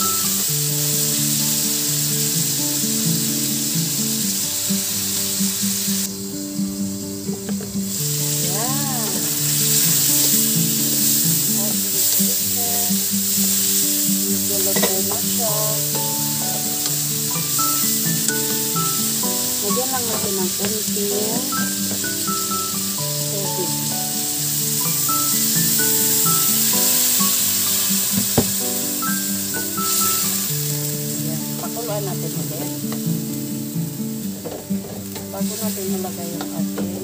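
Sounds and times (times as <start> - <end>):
background music: 0.0 - 37.0
food sizzling in a wok: 0.0 - 37.0.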